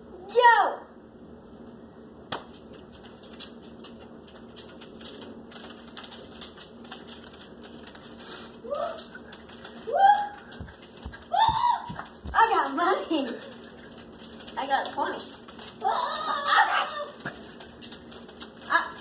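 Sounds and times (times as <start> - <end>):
paper money rustling: 2.5 - 11.4, 12.0 - 19.0.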